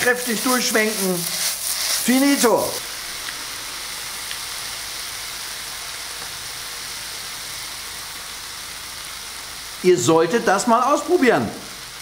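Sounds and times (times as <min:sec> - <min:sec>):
cabbage sizzling in a frying pan: 0:00.0 - 0:12.0.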